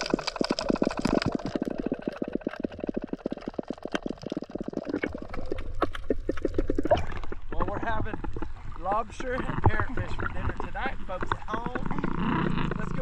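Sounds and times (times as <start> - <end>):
low rumble of moving water: 0.0 - 13.0
underwater bubbly pops and clicks: 0.0 - 13.0.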